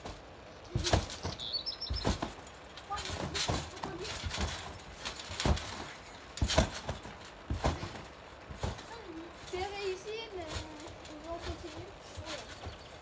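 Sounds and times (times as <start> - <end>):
feet landing on trampoline: 0.0 - 13.0.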